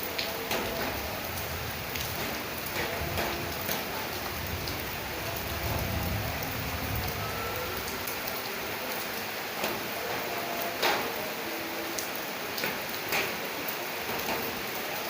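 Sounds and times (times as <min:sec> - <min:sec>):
raindrops striking close by: 0:00.0 - 0:15.0
steady rain falling: 0:00.0 - 0:15.0.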